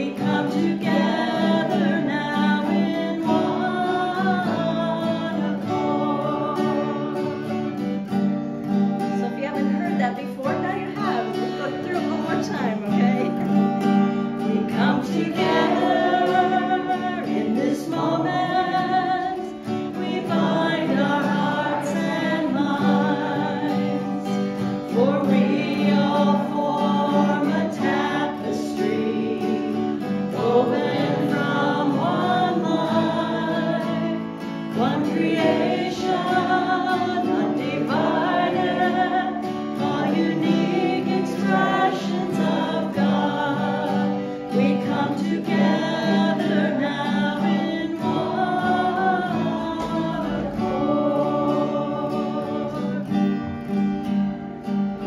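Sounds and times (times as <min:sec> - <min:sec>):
group of voices singing: 0:00.0 - 0:09.2, 0:10.5 - 0:55.0
strummed acoustic guitar: 0:00.0 - 0:55.0.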